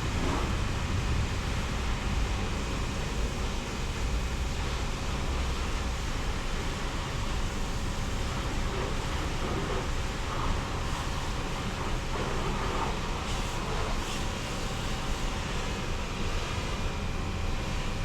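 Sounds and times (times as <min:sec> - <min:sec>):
car wash machinery rushing: 0:00.0 - 0:18.0.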